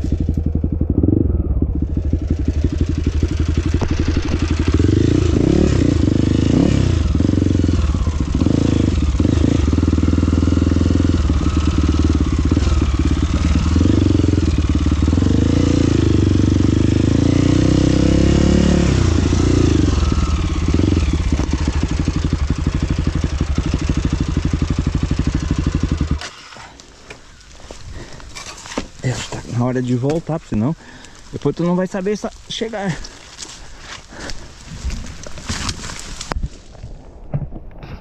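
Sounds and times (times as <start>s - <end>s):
off-road motorcycle engine: 0.0s - 38.0s.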